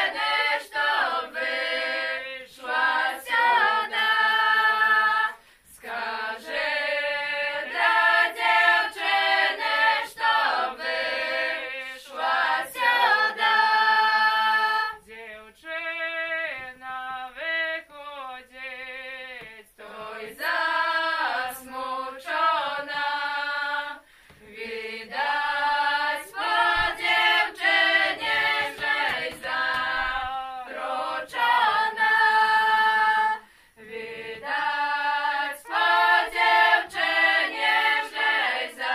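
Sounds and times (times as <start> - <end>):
girls singing unaccompanied: 0.0 - 38.9.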